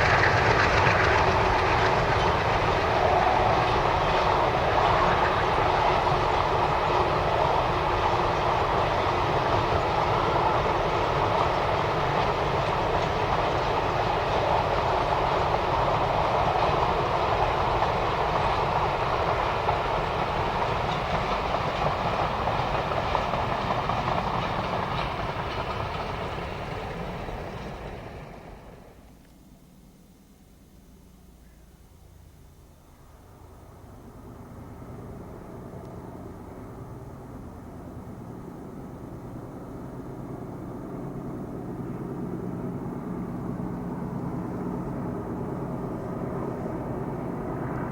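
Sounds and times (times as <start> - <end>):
freight train rolling past: 0.0 - 30.1, 31.8 - 47.9.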